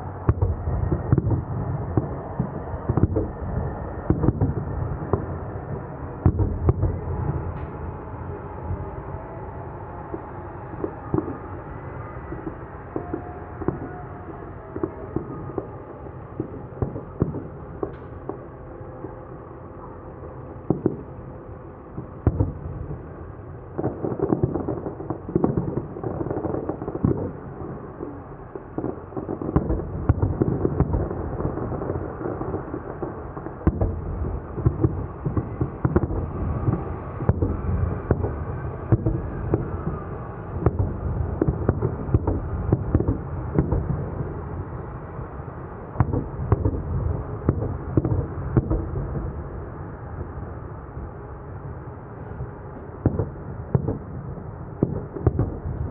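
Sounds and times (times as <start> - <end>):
fireworks booming and popping: 0.2 - 9.1, 10.0 - 19.3, 20.2 - 21.2, 21.9 - 45.1, 45.8 - 50.5, 52.4 - 55.9.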